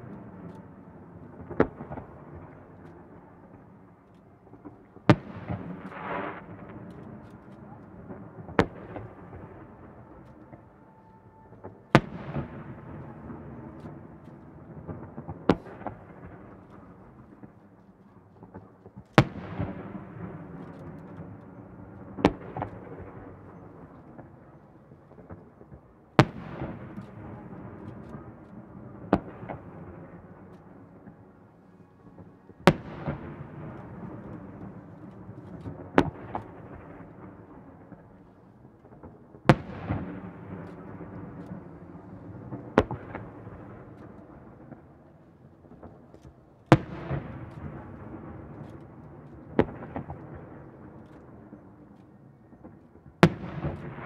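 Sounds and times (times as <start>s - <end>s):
fireworks bangs with echo: 0.0s - 54.0s.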